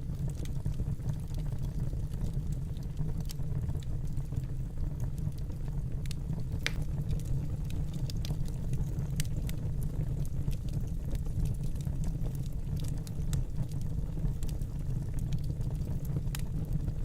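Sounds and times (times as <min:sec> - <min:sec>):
fire crackles and pops: 0:00.0 - 0:17.0
low rumble of flame: 0:00.0 - 0:17.0.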